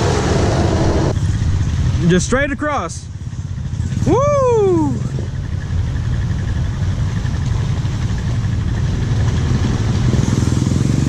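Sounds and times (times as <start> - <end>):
atv engine idling: 0.9 - 11.0.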